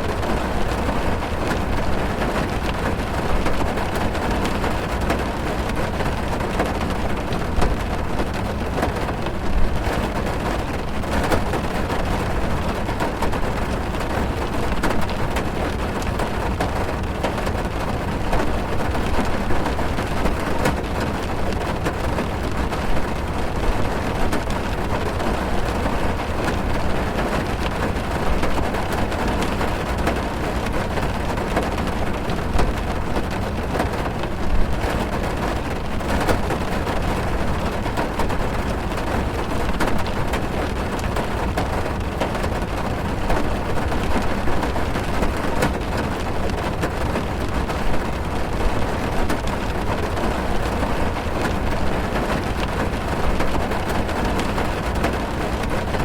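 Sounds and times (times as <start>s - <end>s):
heavy rain on a car roof: 0.0s - 56.0s.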